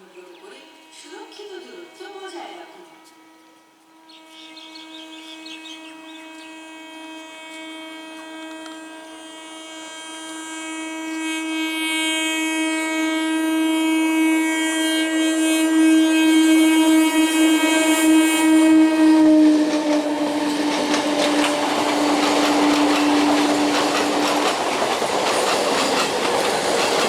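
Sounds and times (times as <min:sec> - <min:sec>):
train horn blast: 0:00.4 - 0:27.0.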